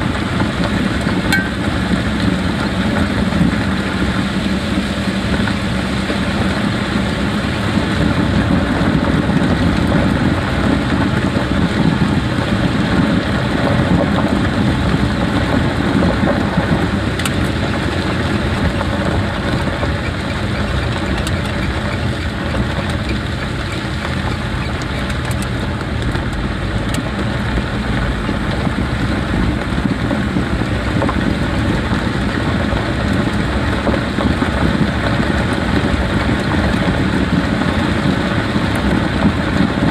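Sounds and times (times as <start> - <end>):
engine hum: 0.0 - 39.9
road and tyre noise: 0.0 - 39.9.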